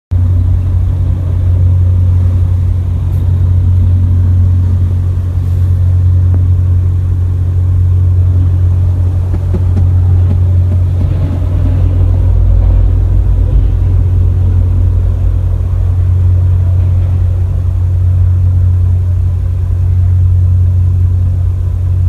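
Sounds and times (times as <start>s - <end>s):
car rumbling on road: 0.1s - 22.0s.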